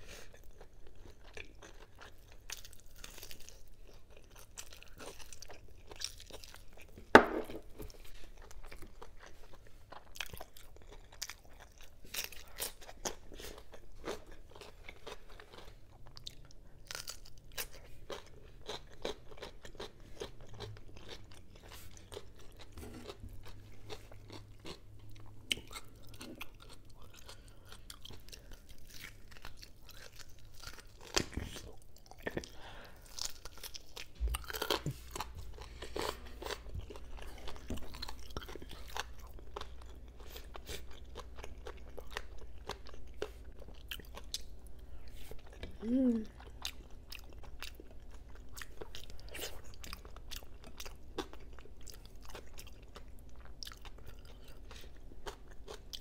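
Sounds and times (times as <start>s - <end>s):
wet chewing and crunching: 0.0s - 56.0s.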